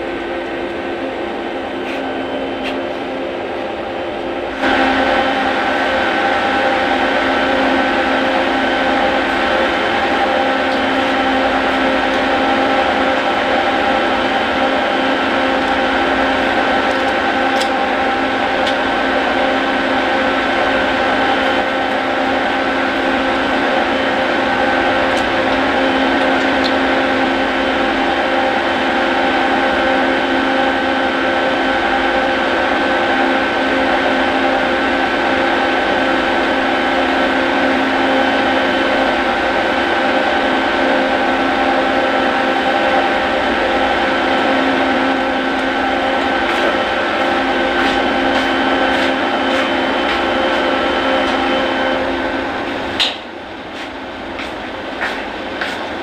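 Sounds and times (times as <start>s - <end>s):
motor-driven machine humming: 0.0s - 53.8s.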